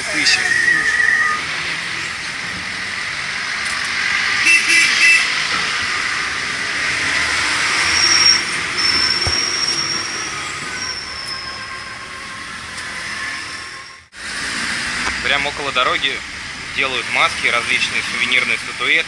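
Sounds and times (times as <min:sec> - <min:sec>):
moving vehicle rushing noise: 0:00.0 - 0:19.0.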